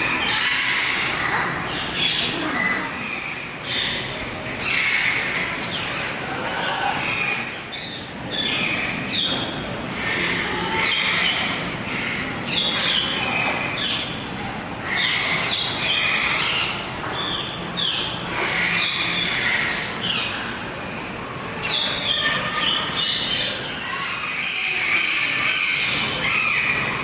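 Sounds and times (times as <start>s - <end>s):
birds squawking: 0.0s - 27.0s.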